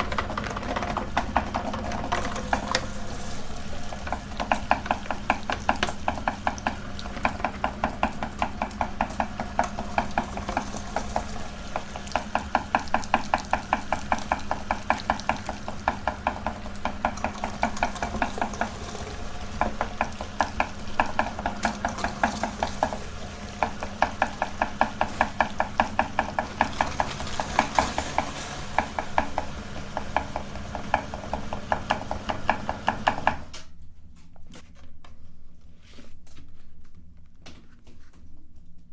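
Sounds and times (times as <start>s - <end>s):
auger clicking rhythmically: 0.0s - 33.4s
meat grinder motor hum: 0.0s - 33.5s.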